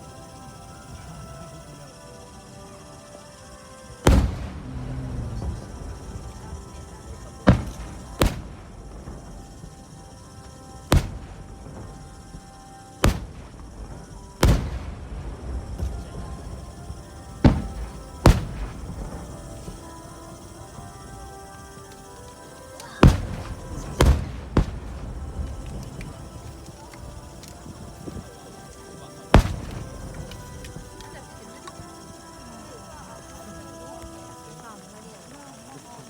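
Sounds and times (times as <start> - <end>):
music: 0.0 - 36.0
firework shells booming: 3.4 - 36.0.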